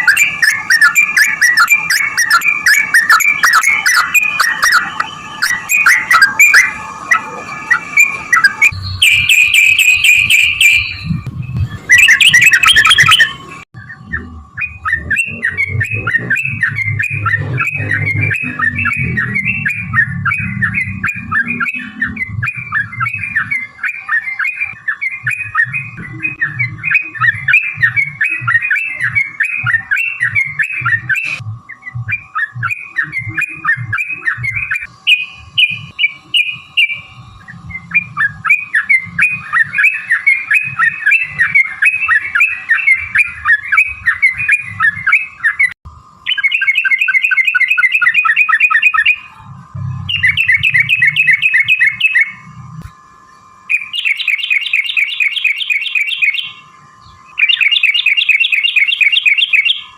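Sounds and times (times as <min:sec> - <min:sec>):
bird chattering song: 0:00.0 - 0:52.5, 0:53.3 - 0:59.9
rapid bird trill: 0:00.0 - 0:59.9.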